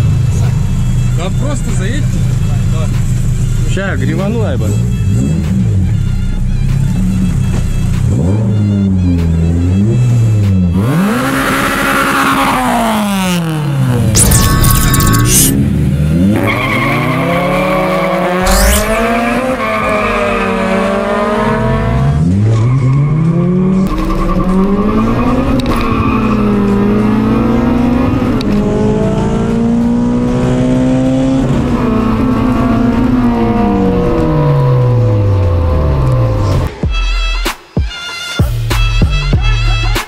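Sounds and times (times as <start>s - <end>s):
race engine at full throttle: 0.0s - 36.7s.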